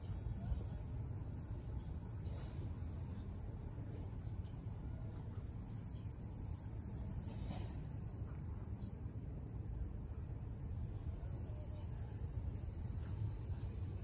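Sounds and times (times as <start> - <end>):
faint bird chirps: 0.0 - 14.0
low background rumble: 0.0 - 14.0.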